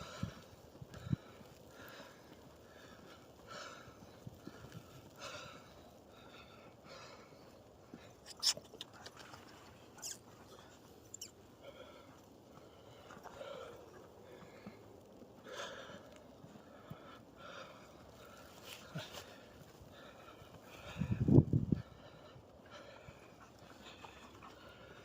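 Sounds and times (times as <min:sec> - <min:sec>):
person breathing hard: 0:00.0 - 0:08.2, 0:10.3 - 0:25.0.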